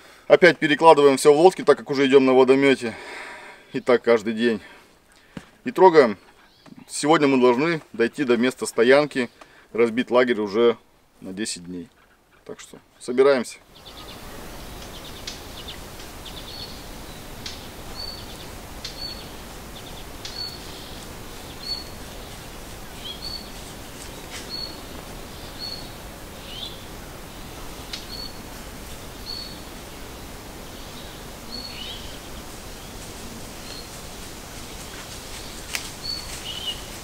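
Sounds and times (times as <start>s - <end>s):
outdoor hiss: 0.0s - 37.0s
songbird chirping: 5.0s - 37.0s.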